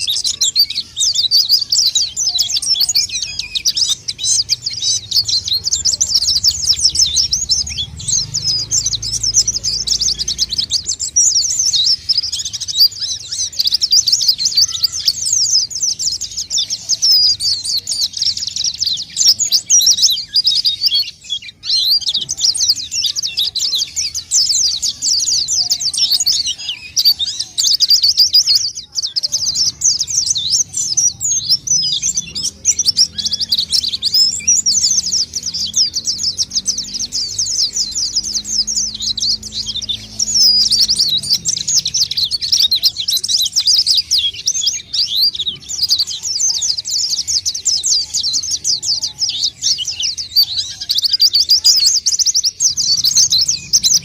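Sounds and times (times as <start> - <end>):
bird twittering chatter: 0.0 - 54.0.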